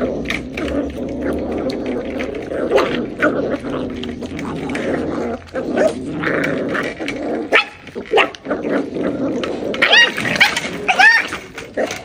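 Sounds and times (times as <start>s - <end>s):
puppies growling: 0.0s - 12.0s
puppies lapping and chewing: 0.0s - 12.0s.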